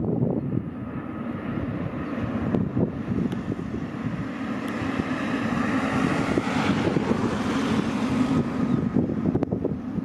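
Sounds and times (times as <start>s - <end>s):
distant jet engine whine: 0.0s - 10.0s
wind buffeting microphone: 0.0s - 10.0s.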